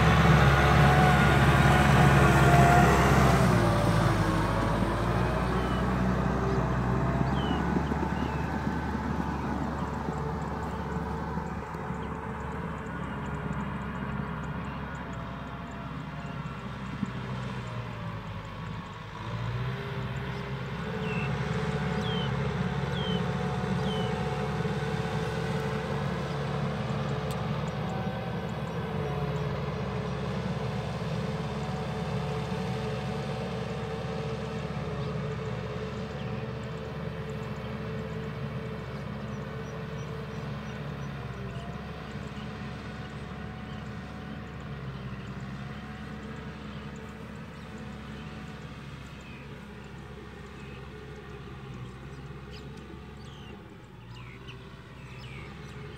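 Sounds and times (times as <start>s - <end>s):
distant tractor engine: 0.0s - 55.9s.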